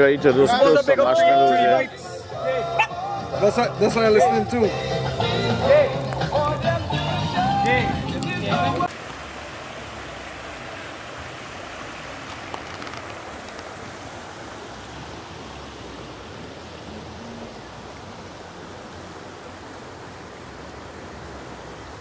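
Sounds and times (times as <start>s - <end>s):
river running over stones: 0.0s - 22.0s.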